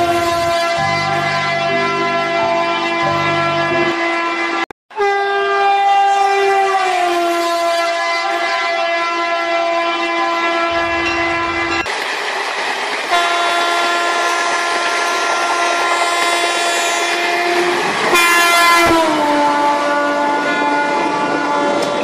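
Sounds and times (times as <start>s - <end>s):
train horn blasts: 0.0s - 11.9s, 13.1s - 22.0s.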